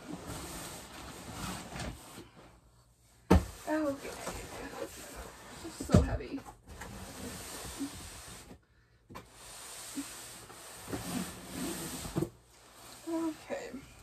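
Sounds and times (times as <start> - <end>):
household items rustling: 0.0 - 14.0.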